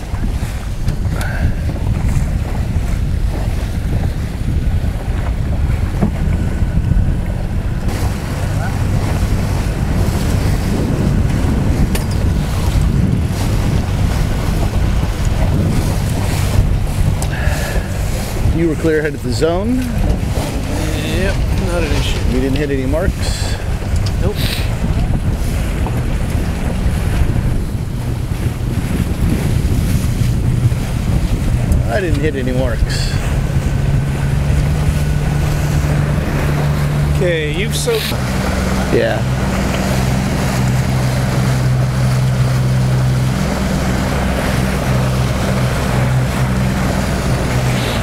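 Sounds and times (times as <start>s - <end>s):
strong wind buffeting microphone: 0.0s - 48.0s
waves lapping against boat: 0.0s - 48.0s.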